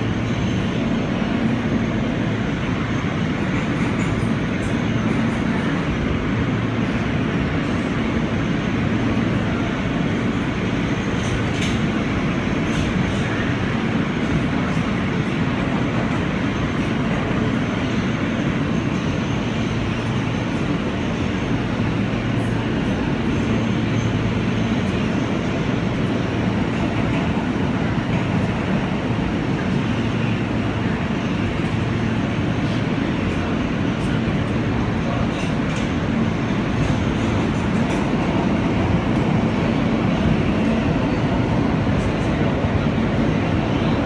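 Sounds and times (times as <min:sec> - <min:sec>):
subway train rumbling: 0:00.0 - 0:44.0.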